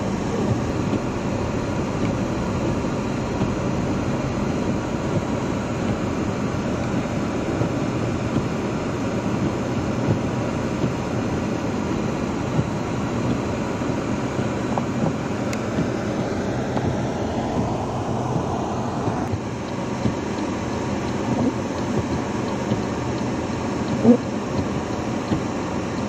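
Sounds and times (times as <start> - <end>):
car engine and tyres on snowy road: 0.0 - 26.0.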